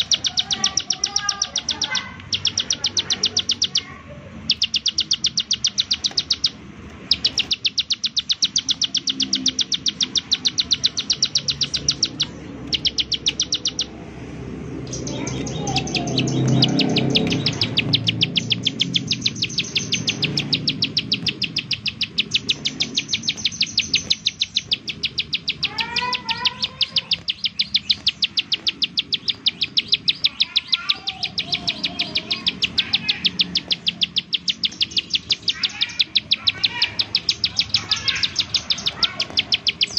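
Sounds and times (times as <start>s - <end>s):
bird rapid high notes: 0.0s - 14.0s, 14.8s - 39.9s.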